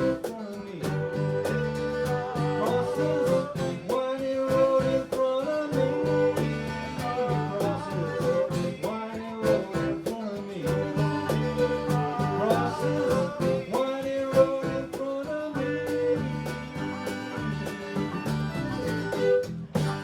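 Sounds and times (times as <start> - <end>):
country band playing: 0.0 - 20.0.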